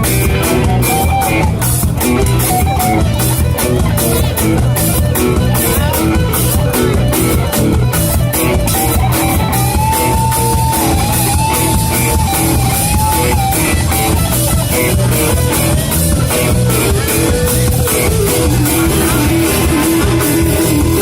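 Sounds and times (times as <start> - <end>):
drums: 0.0 - 21.0
heavy low end: 0.0 - 21.0
lead guitar long bending note: 0.0 - 21.0.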